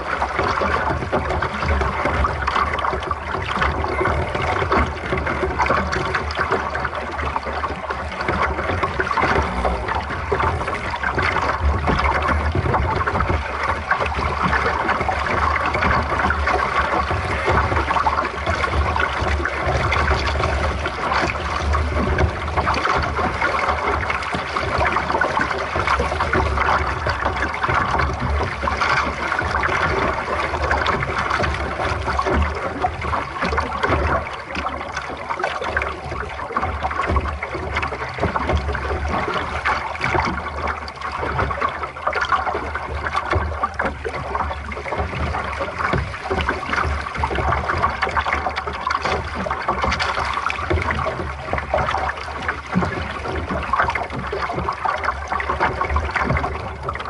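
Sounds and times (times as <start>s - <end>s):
water rushing along boat hull: 0.0s - 57.0s.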